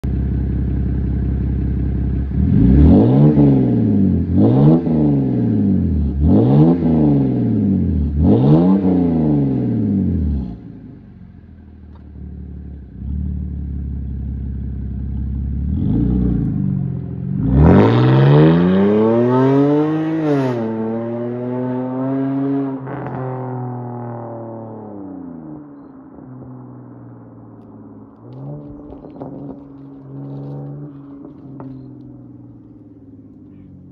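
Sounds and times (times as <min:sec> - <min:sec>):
car engine revving: 0:00.0 - 0:11.0, 0:11.9 - 0:33.9
car accelerating away: 0:02.0 - 0:11.0, 0:11.9 - 0:33.9.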